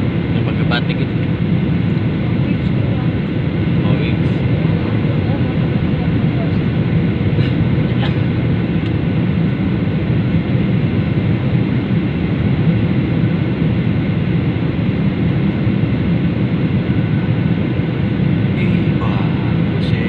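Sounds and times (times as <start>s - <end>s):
jet airliner cabin noise: 0.0s - 20.0s.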